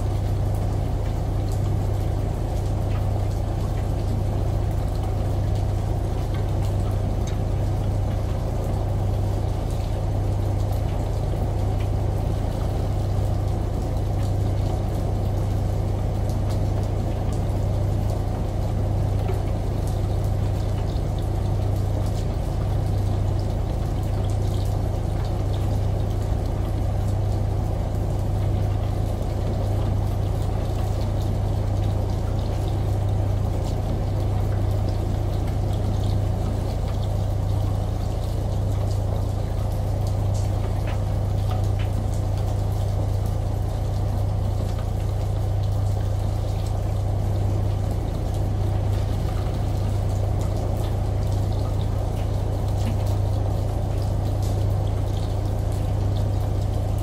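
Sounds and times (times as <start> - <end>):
washing machine motor hum: 0.0 - 57.0
water sloshing and trickling: 0.0 - 57.0.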